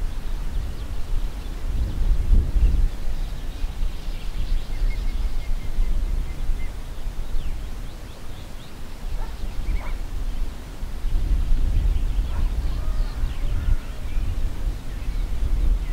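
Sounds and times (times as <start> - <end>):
wind buffeting microphone: 0.0 - 15.9
birds chirping and calling: 0.5 - 15.9.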